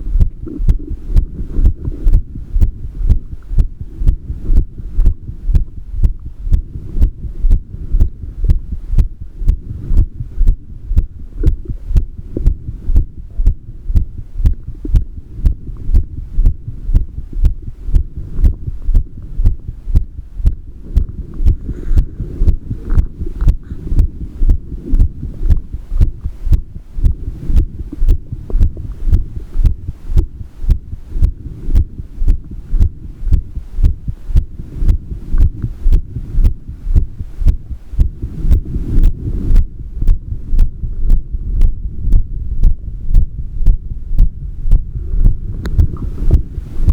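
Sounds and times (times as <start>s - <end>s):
constant low hum: 0.0s - 46.9s
heartbeat thuds: 0.0s - 46.9s.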